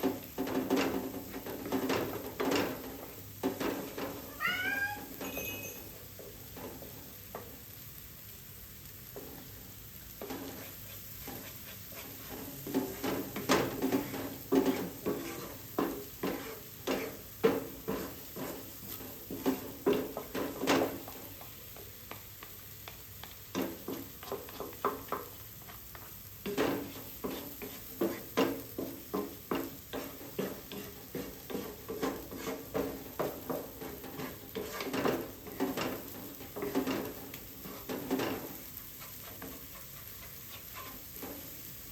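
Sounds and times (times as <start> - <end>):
utensil scraping frying pan: 0.0 - 7.6, 9.0 - 41.9
faint sizzle: 0.0 - 41.9.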